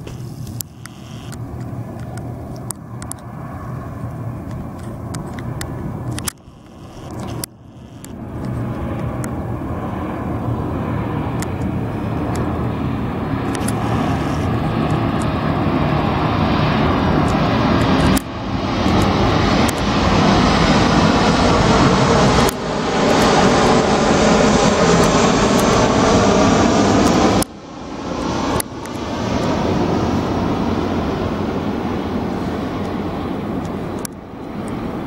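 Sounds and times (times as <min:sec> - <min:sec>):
airliner engines rumbling: 0:00.0 - 0:35.0.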